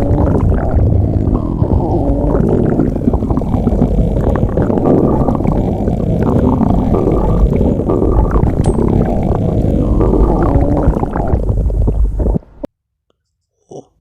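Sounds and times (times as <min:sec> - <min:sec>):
stomach growling: 0:00.0 - 0:12.7.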